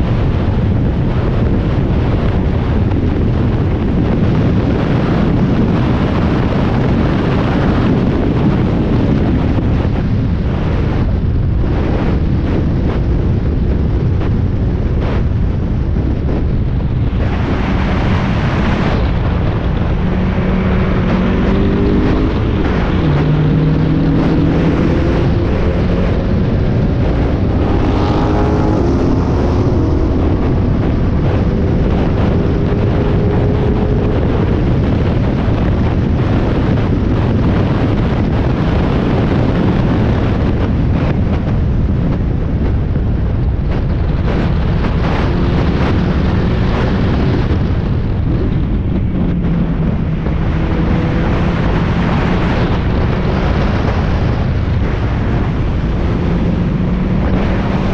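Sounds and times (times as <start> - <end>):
race car engine at full throttle: 0.0 - 57.9
wind buffeting: 0.0 - 57.9.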